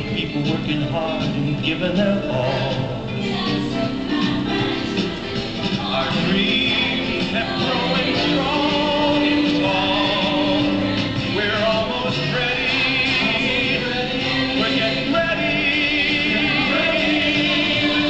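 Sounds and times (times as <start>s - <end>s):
film soundtrack music with singing: 0.0s - 18.0s.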